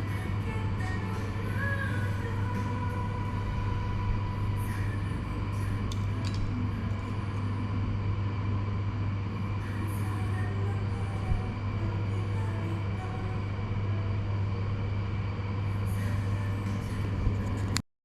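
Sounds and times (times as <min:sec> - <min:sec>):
faint background music: 0:00.0 - 0:17.8
low hum: 0:00.0 - 0:17.8.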